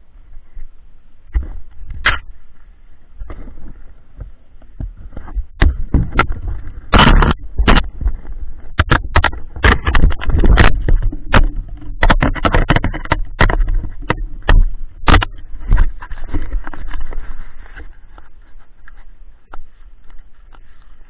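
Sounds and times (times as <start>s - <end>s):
knocks and scrapes on camera: 3.2s - 21.0s.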